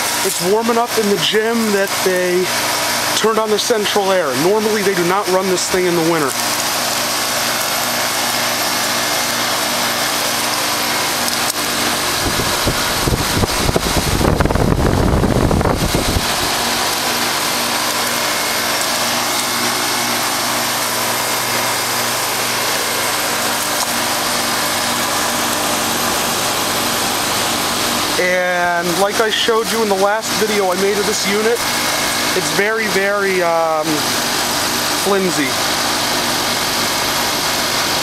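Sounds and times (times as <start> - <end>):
compressor humming: 0.0 - 38.0
condenser fan whooshing: 0.0 - 38.0.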